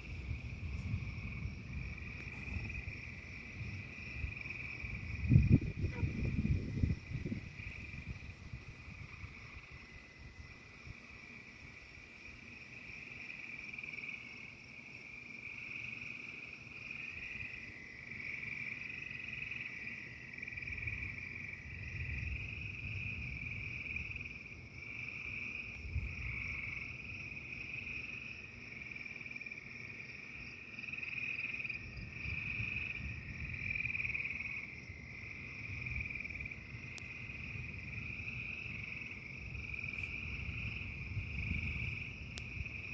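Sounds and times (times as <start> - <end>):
frogs trilling: 0.0 - 42.9.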